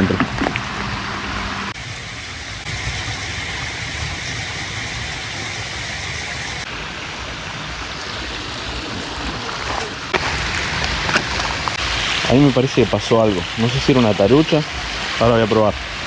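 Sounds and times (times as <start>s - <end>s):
water rushing over concrete: 0.0s - 16.0s.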